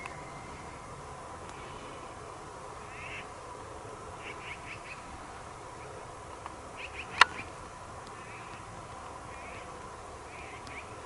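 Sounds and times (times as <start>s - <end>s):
elk chirping: 0.0s - 11.0s.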